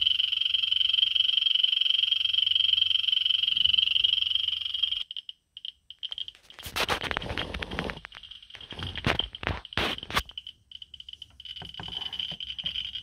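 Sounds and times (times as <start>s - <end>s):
geiger counter buzzing: 0.0s - 6.7s, 7.3s - 13.0s.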